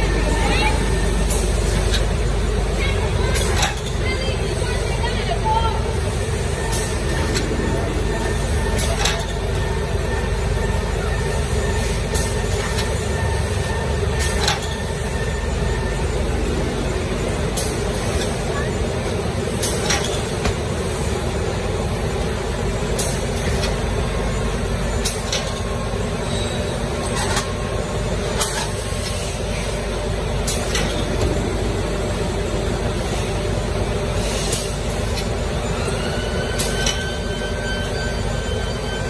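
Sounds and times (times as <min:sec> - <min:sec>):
packaging machinery running: 0:00.0 - 0:39.0
machine whine: 0:05.7 - 0:39.0.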